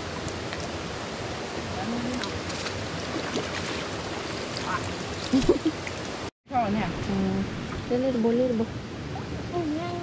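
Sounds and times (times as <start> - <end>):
stream flowing: 0.0 - 10.0.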